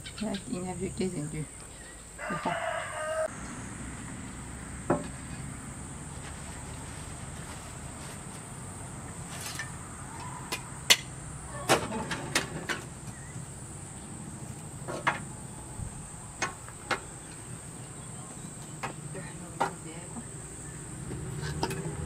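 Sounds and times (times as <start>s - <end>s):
high drone of insects: 0.0s - 22.0s.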